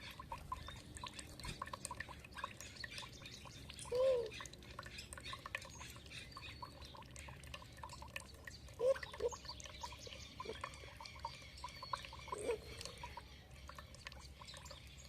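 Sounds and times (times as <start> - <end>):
water dripping and trickling: 0.0 - 15.0.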